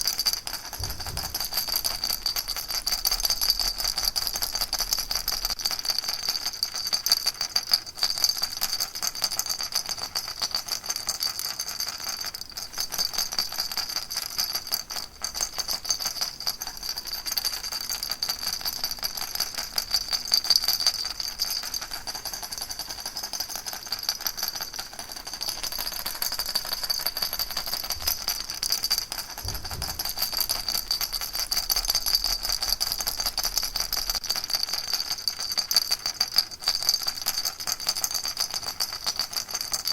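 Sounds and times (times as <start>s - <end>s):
baby rattle shaken: 0.0s - 8.6s, 12.2s - 39.9s.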